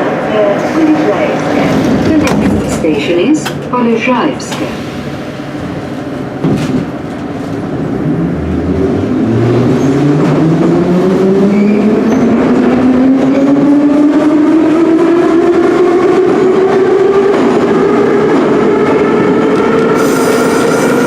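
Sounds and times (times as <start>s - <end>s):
metro train motors whining: 0.0s - 21.0s
rail noise: 0.0s - 21.0s.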